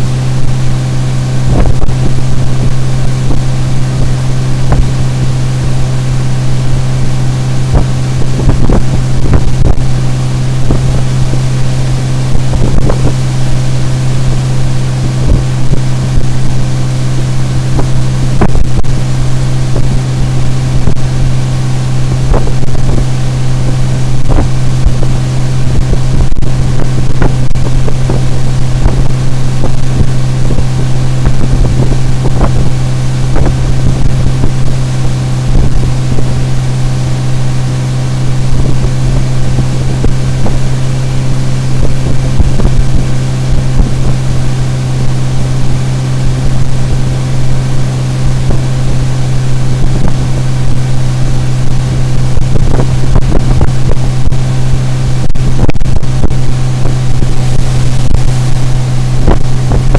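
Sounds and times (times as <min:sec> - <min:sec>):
outboard motor droning: 0:00.0 - 0:59.9
wind noise: 0:00.0 - 0:59.9.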